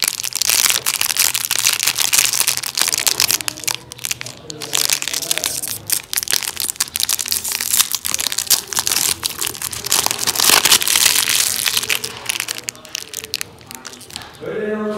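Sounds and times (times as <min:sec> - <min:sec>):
plastic wrapper crinkling: 0:00.0 - 0:14.4.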